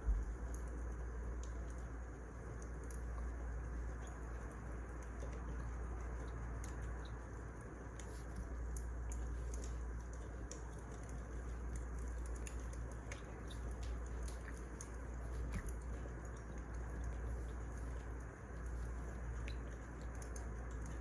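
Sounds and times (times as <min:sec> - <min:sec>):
wood fire crackling: 0:00.2 - 0:21.0.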